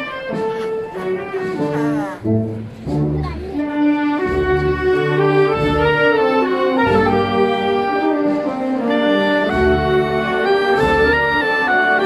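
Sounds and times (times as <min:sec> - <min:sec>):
brass band playing a march: 0:00.0 - 0:12.0.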